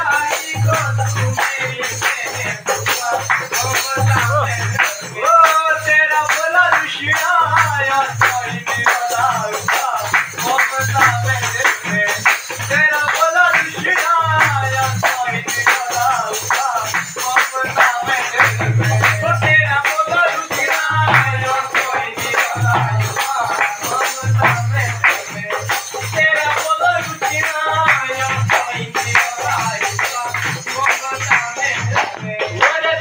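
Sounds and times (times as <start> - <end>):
dholak drum beating: 0.0 - 33.0
jingling tambourine: 0.0 - 33.0
man singing: 0.0 - 33.0
hand claps: 0.2 - 33.0.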